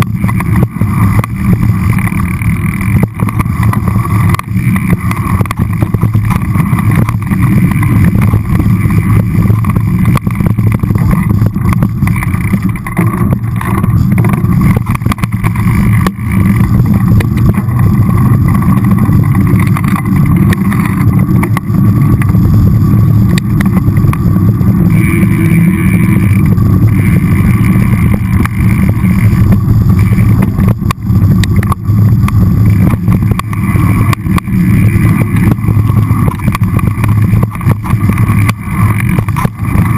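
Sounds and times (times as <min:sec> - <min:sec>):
bike knocks and rattles: 0:00.0 - 0:39.9
wind and trail rumble: 0:00.0 - 0:39.9.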